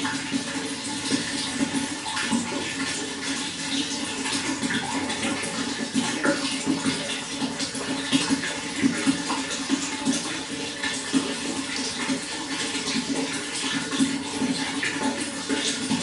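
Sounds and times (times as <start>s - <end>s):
running water flowing: 0.0s - 16.0s.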